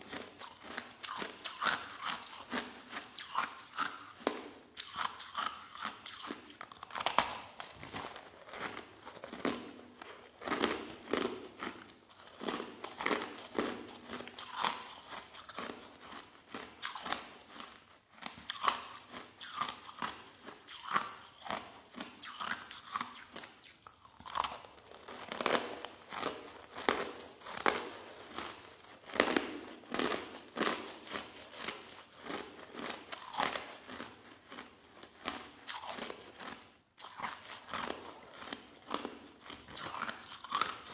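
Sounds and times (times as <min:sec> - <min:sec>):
crushed ice being chewed: 0:00.0 - 0:40.9.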